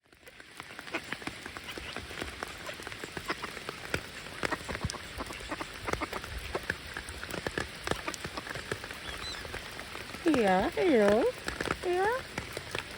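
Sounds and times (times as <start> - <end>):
water drips: 0.0 - 12.9
rain hissing: 0.2 - 12.9.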